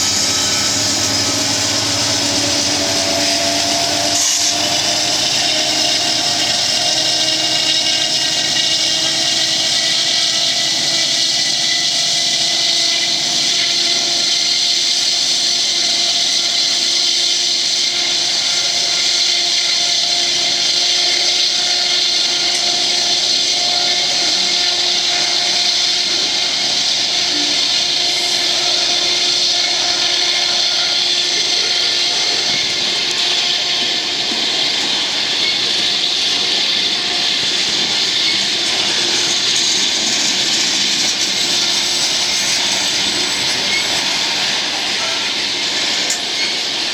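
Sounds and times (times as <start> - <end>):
high whine: 0.0 - 46.5
diesel locomotive engines working hard: 0.0 - 46.9.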